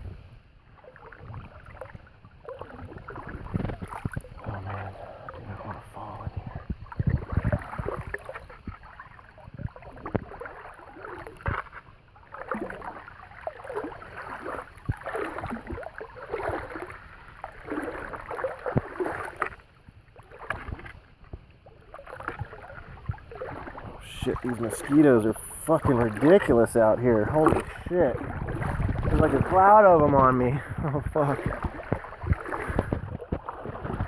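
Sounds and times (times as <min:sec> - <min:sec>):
water sloshing around wading legs: 0:00.0 - 0:34.0.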